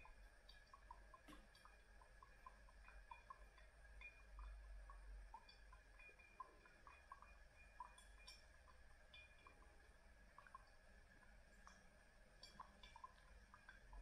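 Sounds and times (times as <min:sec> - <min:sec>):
coffee dripping into glass: 0:00.0 - 0:14.0
low room hum: 0:00.0 - 0:14.0.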